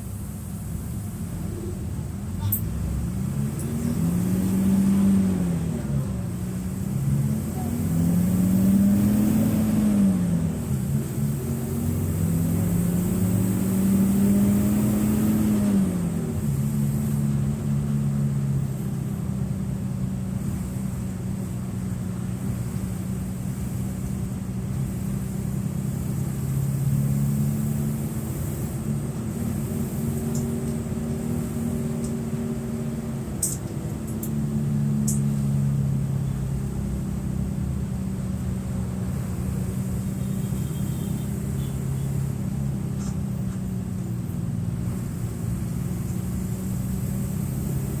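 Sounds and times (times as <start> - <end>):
bus diesel engine running: 0.0 - 48.0.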